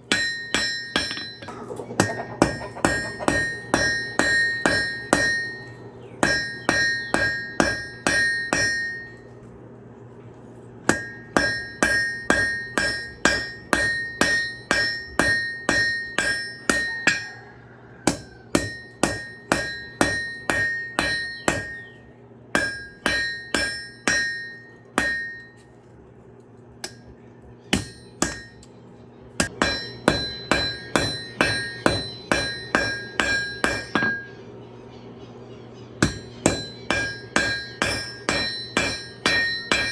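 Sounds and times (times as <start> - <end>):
hammer striking metal on anvil: 0.0 - 9.2, 10.9 - 25.7, 27.7 - 28.7, 29.4 - 34.4, 36.0 - 39.9
steady low hum: 0.0 - 39.9.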